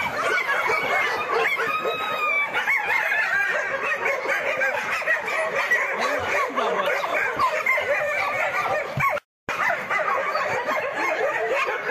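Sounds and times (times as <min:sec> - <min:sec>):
dogs yelping and barking: 0:00.0 - 0:11.9.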